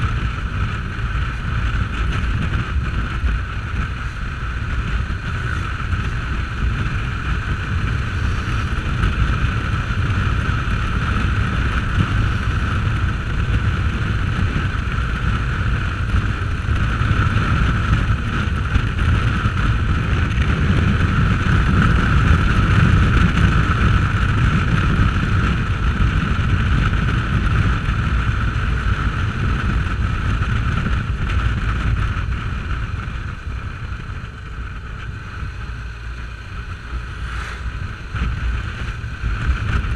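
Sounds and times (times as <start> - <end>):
motorcycle engine running: 0.0 - 39.9
steady high whine: 0.0 - 39.9
wind rush on microphone: 0.0 - 39.9.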